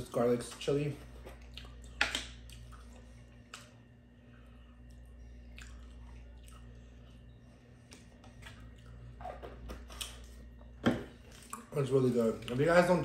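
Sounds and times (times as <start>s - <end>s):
person chewing food: 1.1s - 11.8s.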